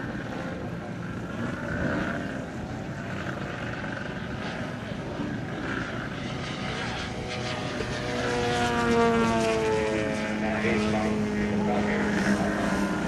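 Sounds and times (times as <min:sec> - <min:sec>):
model plane engine buzzing: 0:00.0 - 0:13.0.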